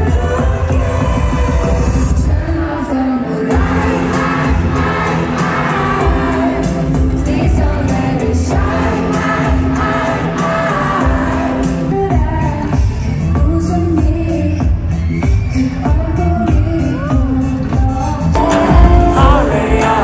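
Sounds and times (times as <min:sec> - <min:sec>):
live pop song over loudspeakers: 0:00.0 - 0:20.0
woman singing: 0:00.0 - 0:20.0.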